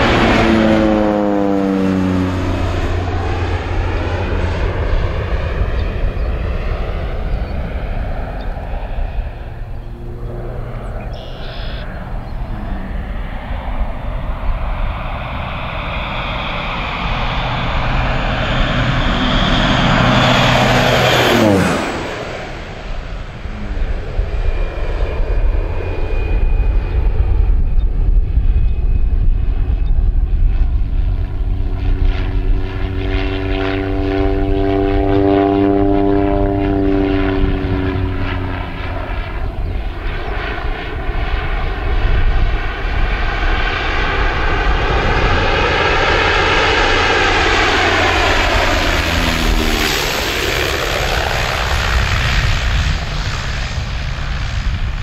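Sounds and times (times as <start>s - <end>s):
propeller plane flying over: 0.0s - 55.0s.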